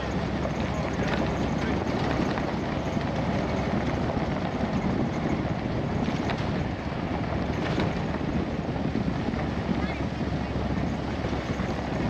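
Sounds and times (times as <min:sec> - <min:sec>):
tyres rolling on gravel road: 0:00.0 - 0:12.0
wind buffeting microphone: 0:00.0 - 0:12.0.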